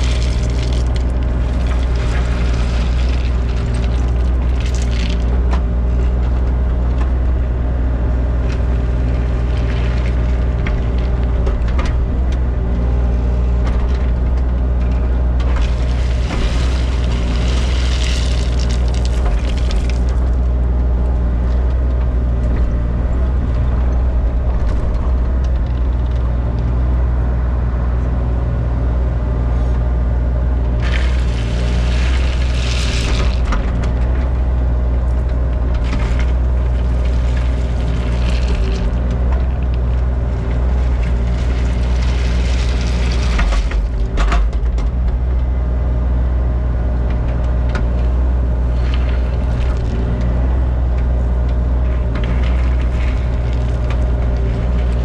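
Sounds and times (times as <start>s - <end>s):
crushed stone rattling and scraping: 0.0s - 26.7s, 30.7s - 45.3s, 47.2s - 55.0s
excavator diesel engine running: 0.0s - 55.0s.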